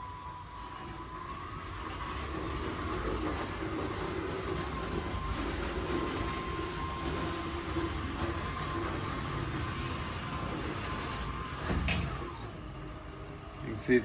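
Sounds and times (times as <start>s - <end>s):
garage door opener motor running: 0.0s - 14.0s.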